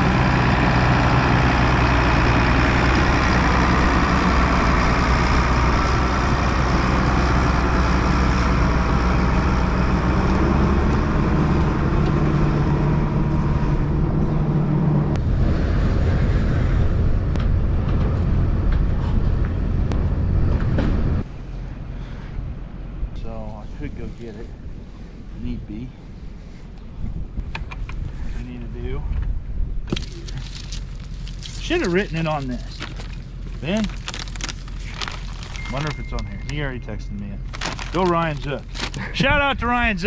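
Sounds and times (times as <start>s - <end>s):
farm vehicle engine droning: 0.0s - 26.8s, 29.9s - 40.0s.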